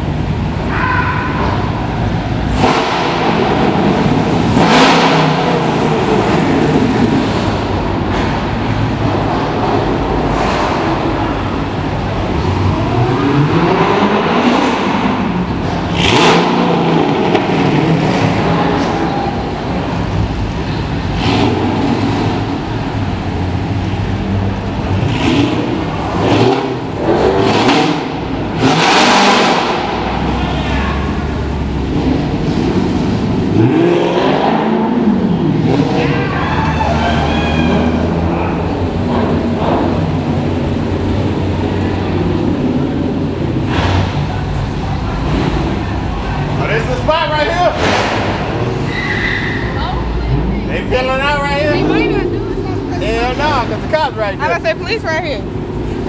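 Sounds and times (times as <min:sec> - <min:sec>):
cars rumbling and revving: 0:00.0 - 0:56.0.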